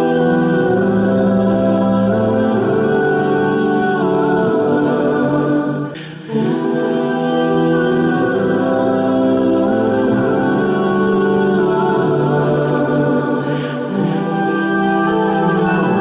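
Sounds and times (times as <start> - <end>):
choir-like background music: 0.0 - 16.0.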